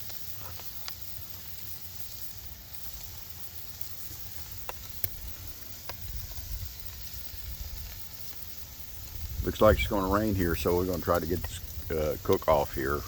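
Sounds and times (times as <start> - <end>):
steak sizzling over fire: 0.0 - 13.0.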